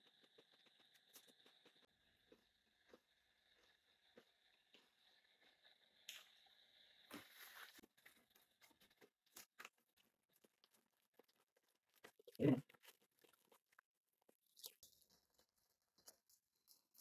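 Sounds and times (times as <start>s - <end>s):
eating clicks and crunches: 0.0s - 6.5s, 8.0s - 17.0s.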